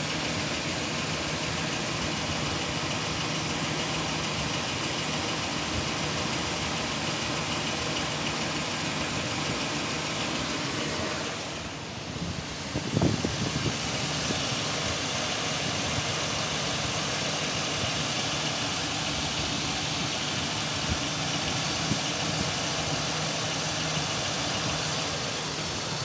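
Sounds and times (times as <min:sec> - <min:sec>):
car engine idling with a knock: 0:00.0 - 0:26.0.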